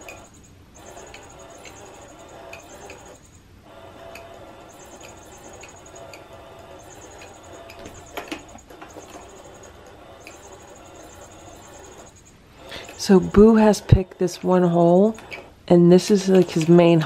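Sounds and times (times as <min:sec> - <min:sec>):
electronic squeaks and chirps: 0:00.0 - 0:15.6
electronic toy humming: 0:00.0 - 0:17.0.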